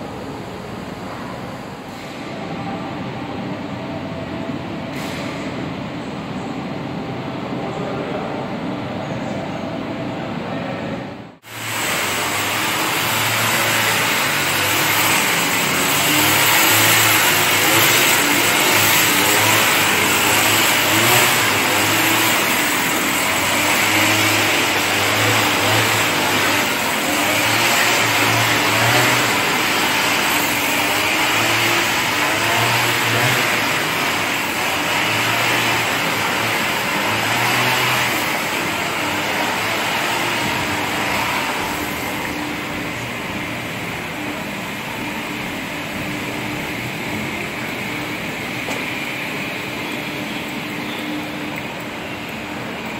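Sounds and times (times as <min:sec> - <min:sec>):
road traffic noise: 0:00.0 - 0:52.9.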